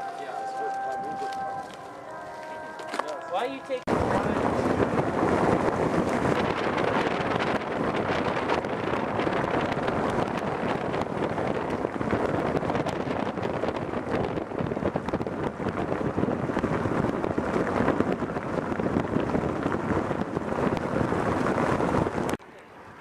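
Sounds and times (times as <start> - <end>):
road and wind noise from a car: 0.0 - 23.0
wind buffeting the microphone: 0.2 - 23.0.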